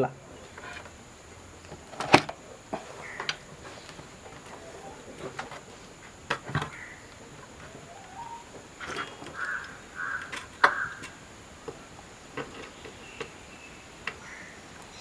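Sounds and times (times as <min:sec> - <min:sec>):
clicks and knocks of handling tools: 0:00.0 - 0:01.0, 0:01.6 - 0:15.0.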